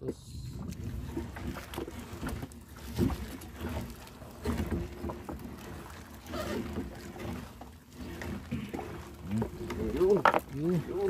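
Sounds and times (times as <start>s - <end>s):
water slapping boat hull: 0.0s - 11.0s
knocks and splashes: 0.6s - 11.0s.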